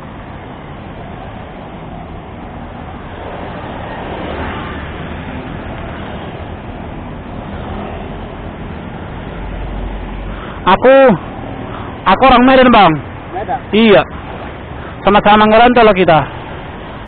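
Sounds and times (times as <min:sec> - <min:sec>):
road traffic noise: 0:00.0 - 0:17.0
vehicle passing: 0:00.0 - 0:17.0.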